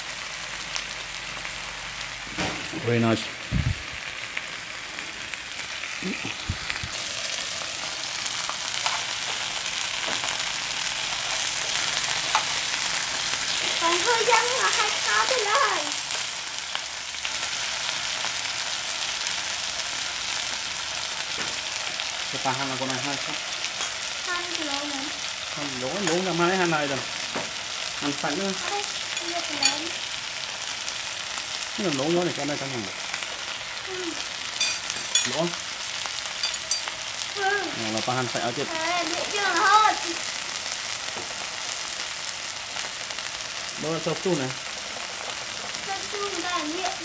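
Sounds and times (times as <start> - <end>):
food sizzling on a grill pan: 0.0 - 47.0.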